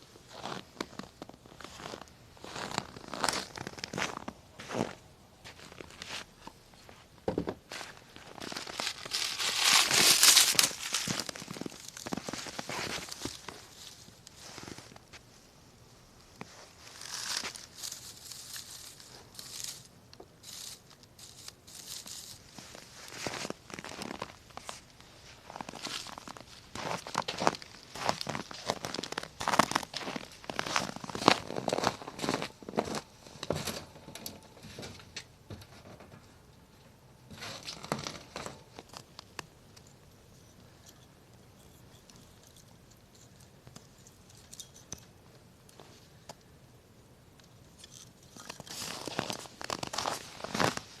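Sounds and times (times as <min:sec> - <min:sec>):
dry tinder crinkling: 0:00.0 - 0:07.0, 0:07.7 - 0:15.5, 0:16.2 - 0:36.0, 0:37.3 - 0:46.5, 0:47.3 - 0:51.0.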